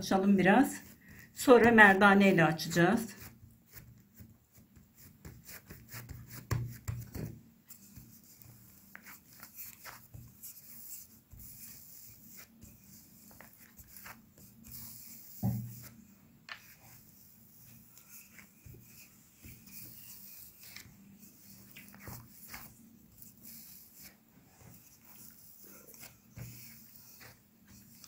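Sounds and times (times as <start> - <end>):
rolling pin rolling dough: 0.6 - 28.0.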